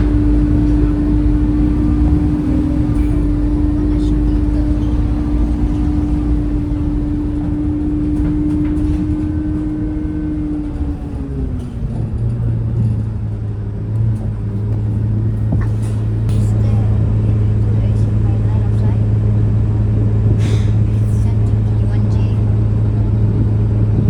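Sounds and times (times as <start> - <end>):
bus diesel engine running: 0.0 - 24.0.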